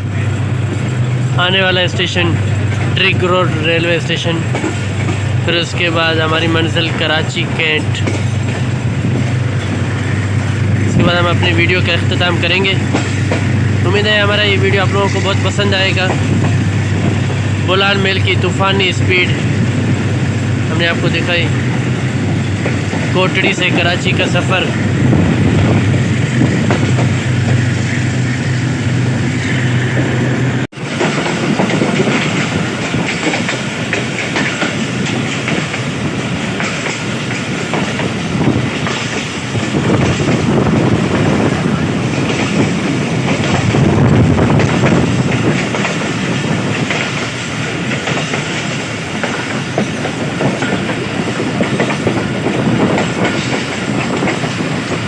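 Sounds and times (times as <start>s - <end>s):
wheels clattering over rail joints: 0.0s - 28.6s, 30.8s - 55.0s
train rumbling: 0.0s - 55.0s.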